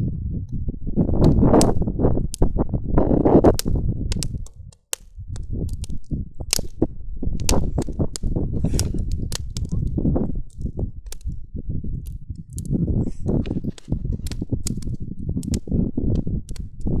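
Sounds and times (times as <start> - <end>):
wood fire crackling: 0.9 - 17.0.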